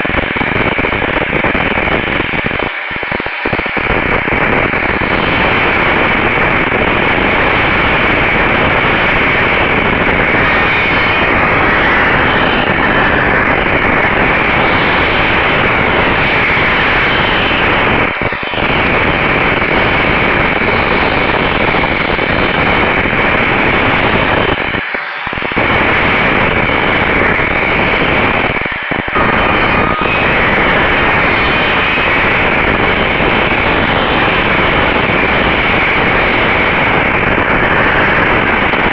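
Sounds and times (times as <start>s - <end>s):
loud steady hissing noise: 0.0s - 38.9s.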